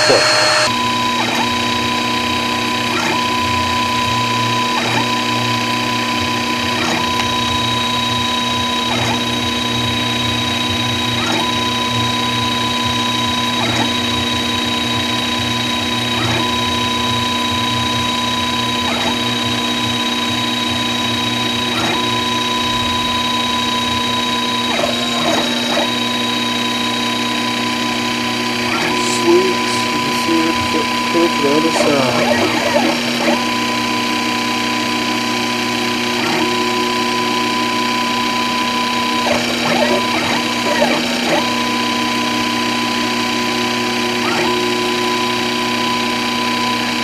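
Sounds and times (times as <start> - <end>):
milling machine whine: 0.0 - 47.0.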